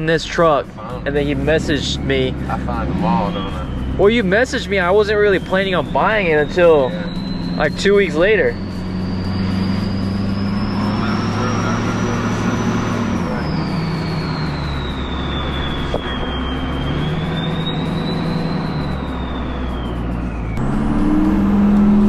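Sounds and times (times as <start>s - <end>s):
turbo whistle: 2.9s - 21.3s.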